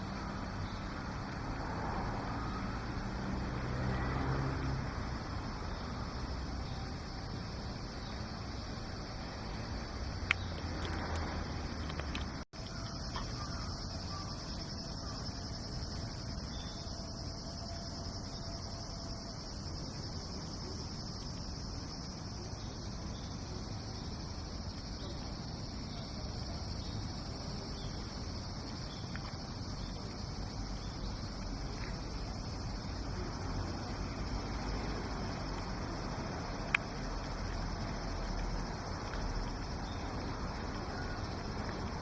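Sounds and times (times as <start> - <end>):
crickets and insects chirping: 0.0 - 42.0.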